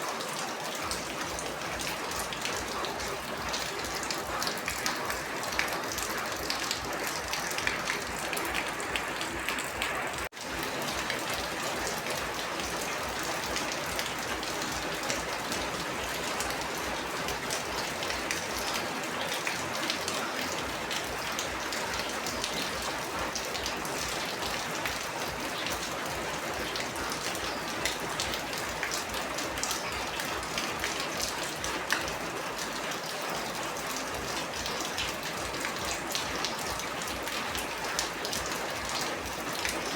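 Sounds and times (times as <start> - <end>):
raindrops ticking: 0.0 - 39.9.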